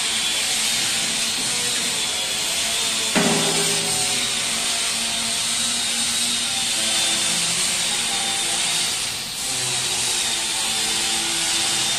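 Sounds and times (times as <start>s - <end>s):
hammer mill grinding with high whine: 0.0s - 11.9s.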